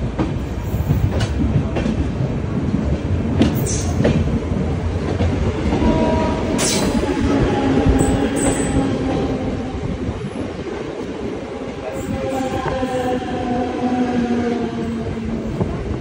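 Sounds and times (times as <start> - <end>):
passing train whine: 0.0 - 16.0
train wheel rumble: 0.0 - 16.0.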